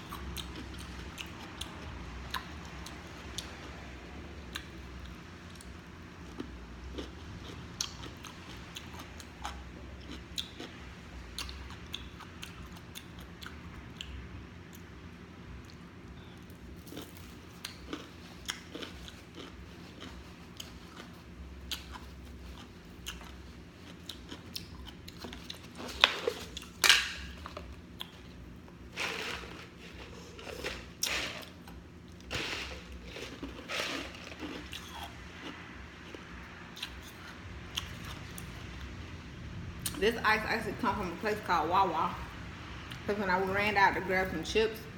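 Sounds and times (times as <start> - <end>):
person chewing crunchy food: 0.0 - 14.9, 15.6 - 38.9.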